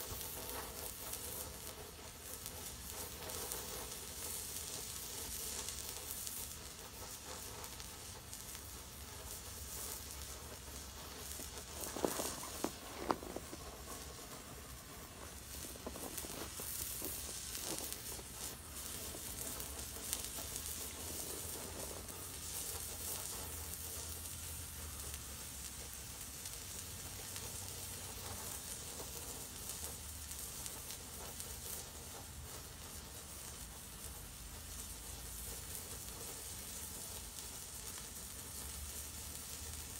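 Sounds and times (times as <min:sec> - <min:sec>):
flare burning with hiss: 0:00.0 - 0:39.9
sharp crackles: 0:00.0 - 0:39.9.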